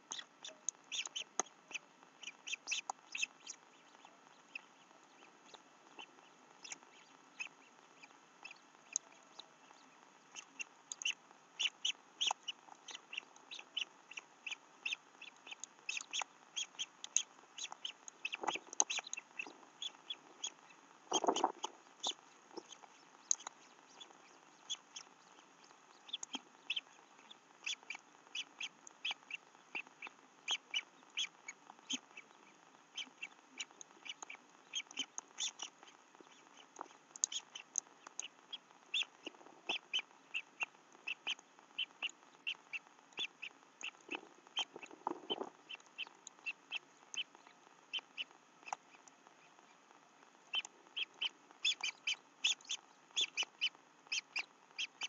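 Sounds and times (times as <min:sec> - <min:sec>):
birds chirping: 0:00.1 - 0:49.8, 0:50.4 - 0:55.0.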